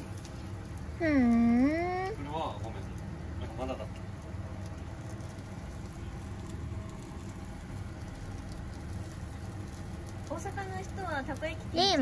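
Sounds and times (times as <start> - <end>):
batter sizzling on hot plate: 0.0 - 12.0.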